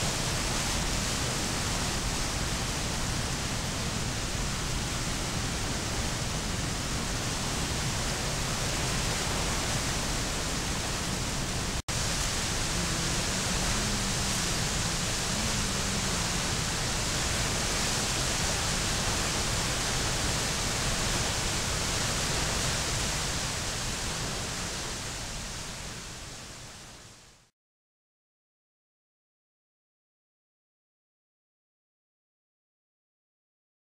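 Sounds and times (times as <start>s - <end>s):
river rushing down a cascade: 0.0s - 27.5s.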